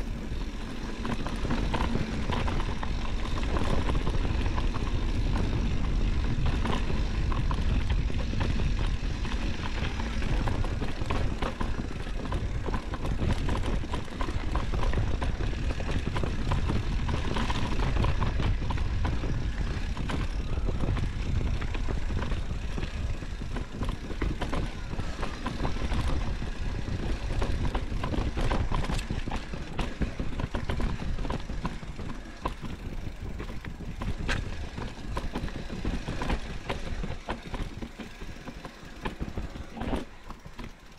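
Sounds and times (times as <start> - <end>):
bike clicks and rattles: 0.0 - 40.9
bike tyre noise: 0.0 - 40.9
wind rumbling on microphone: 0.0 - 40.9.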